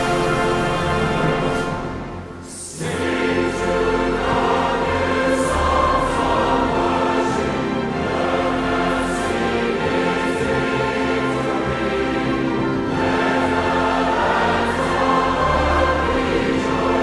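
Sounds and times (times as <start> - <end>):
choir singing sacred music: 0.0 - 17.0.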